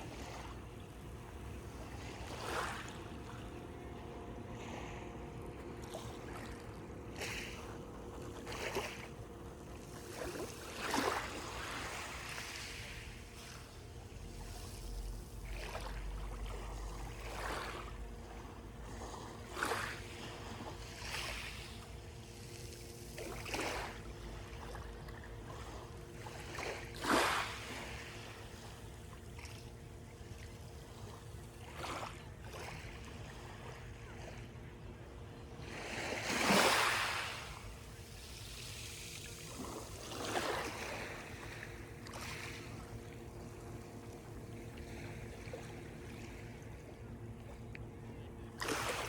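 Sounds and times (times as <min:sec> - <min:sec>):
low rumble of surf: 0:00.0 - 0:49.0
small waves breaking on shore: 0:00.0 - 0:49.0.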